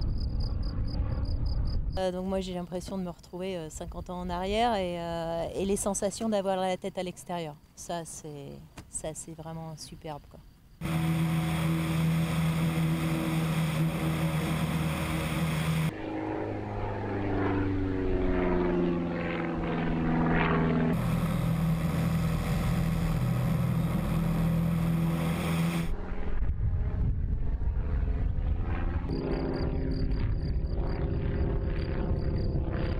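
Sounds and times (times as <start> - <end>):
propeller airplane engine droning: 0.0 - 7.3, 10.7 - 32.9.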